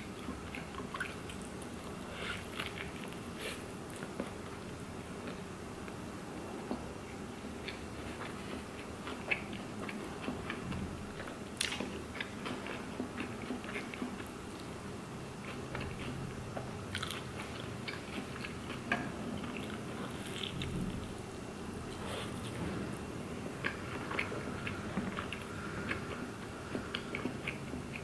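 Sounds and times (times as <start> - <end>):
wet chewing: 0.2 - 5.4, 7.6 - 21.0, 23.6 - 28.0.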